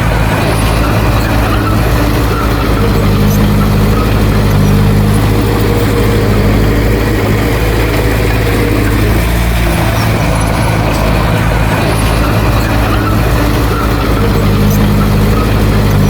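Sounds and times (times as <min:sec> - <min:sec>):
heavy machinery diesel engine: 0:00.0 - 0:16.0
higher engine note: 0:00.0 - 0:16.0.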